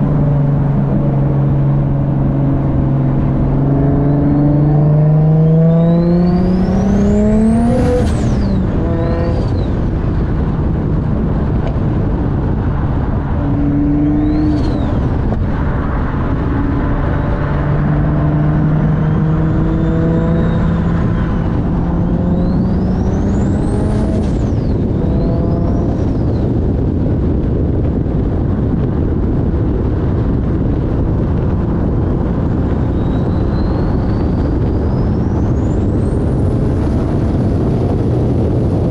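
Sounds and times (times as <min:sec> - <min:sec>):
car engine accelerating: 0:00.0 - 0:38.9
road noise: 0:00.0 - 0:38.9.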